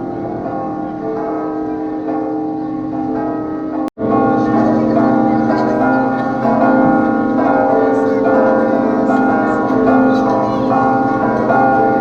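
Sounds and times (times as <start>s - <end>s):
large church bells ringing: 0.0s - 12.0s.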